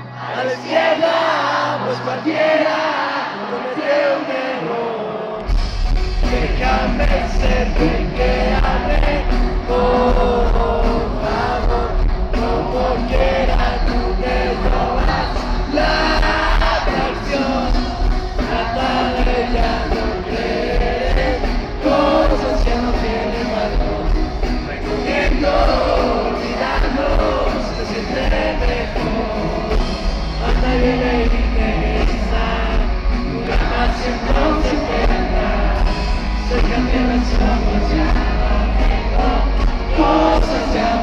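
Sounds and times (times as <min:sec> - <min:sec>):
person singing lead vocal: 0:00.0 - 0:41.0
live rock band playing: 0:05.4 - 0:41.0.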